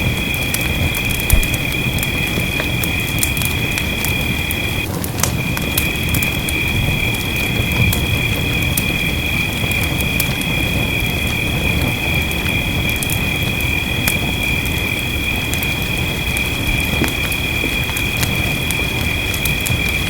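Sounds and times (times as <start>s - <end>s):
wood fire crackling and snapping: 0.2s - 11.5s, 12.2s - 20.0s.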